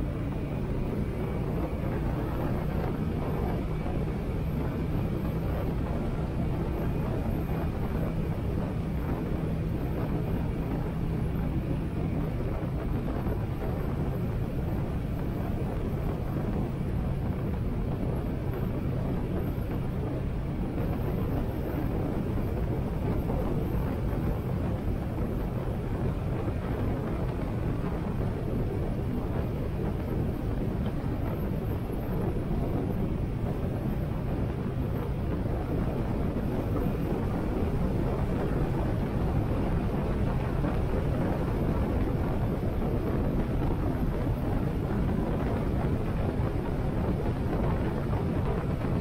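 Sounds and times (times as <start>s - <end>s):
wind rush: 0.0s - 49.0s.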